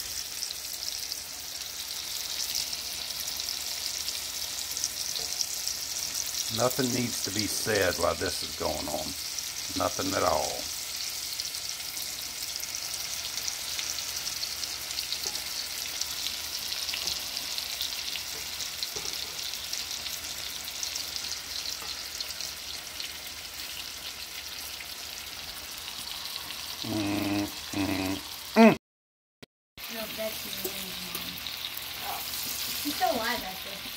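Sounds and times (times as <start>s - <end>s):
meat sizzling in a skillet: 0.0s - 28.6s, 29.8s - 33.9s.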